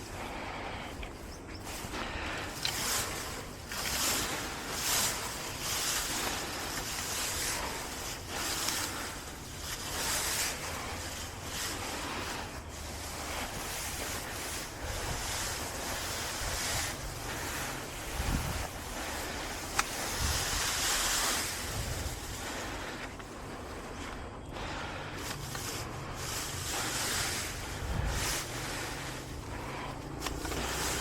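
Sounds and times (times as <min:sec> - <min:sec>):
grass being pulled up by hand: 0:00.0 - 0:31.0
heavy breathing: 0:00.0 - 0:31.0.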